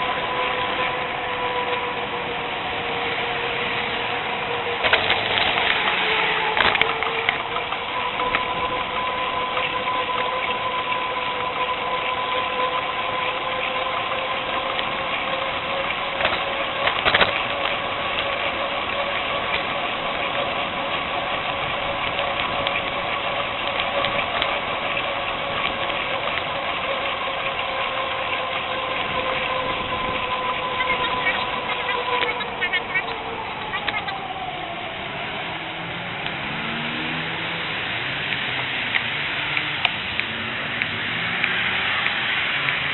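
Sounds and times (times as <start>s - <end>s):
bicycle rattling over bumps: 0.0s - 36.8s
bicycle tyre whine: 0.0s - 42.9s
constant hiss: 0.0s - 42.9s.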